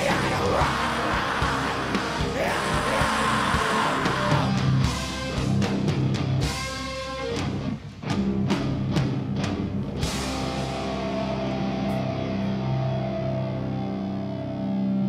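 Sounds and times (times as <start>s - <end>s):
drum kit with cymbal hits: 0.0s - 12.3s
bass: 0.0s - 15.0s
distorted electric guitars: 0.0s - 15.0s.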